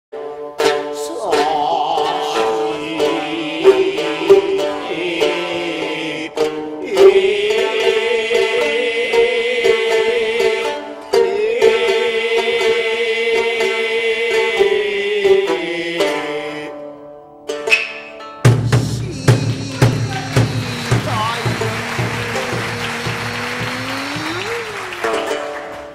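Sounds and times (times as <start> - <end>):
plucked shamisen: 0.1 - 25.9
group of chanters singing: 1.1 - 16.7, 18.7 - 25.8.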